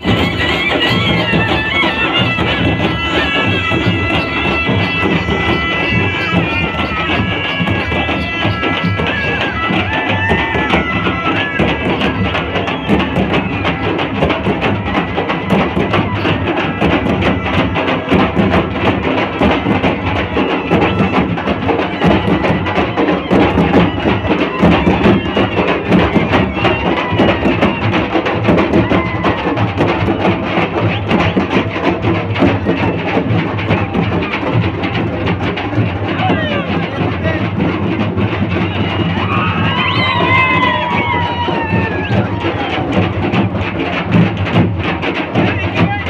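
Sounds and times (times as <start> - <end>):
barrel drums beaten with sticks: 0.0 - 46.0.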